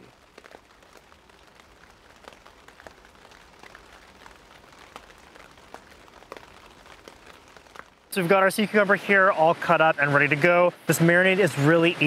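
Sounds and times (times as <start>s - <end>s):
light rain pattering: 0.0s - 12.0s
raindrops ticking on surfaces: 0.0s - 12.0s.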